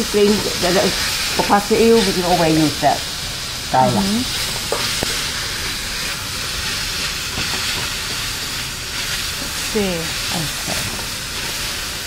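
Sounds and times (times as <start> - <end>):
food sizzling in wok: 0.0 - 12.0.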